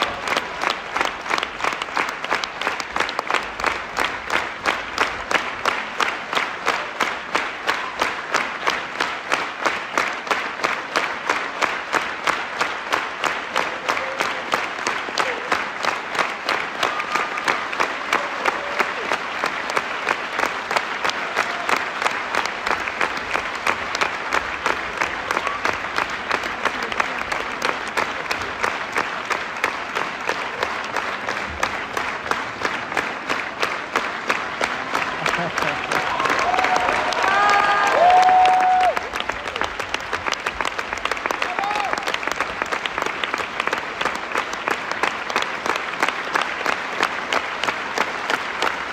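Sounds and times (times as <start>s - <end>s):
audience clapping in rhythm: 0.0s - 48.9s.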